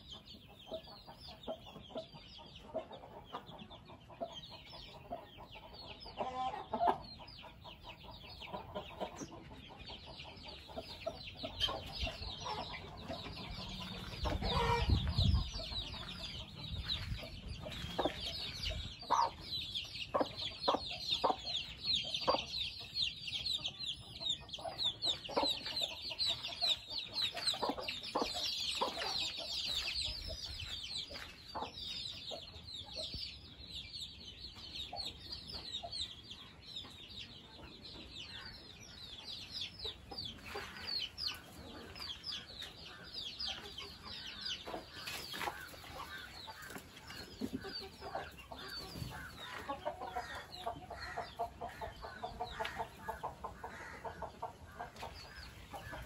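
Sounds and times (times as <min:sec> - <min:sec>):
hen clucking: 0:00.0 - 0:33.3, 0:34.5 - 0:56.0
chicks peeping: 0:00.0 - 0:56.0.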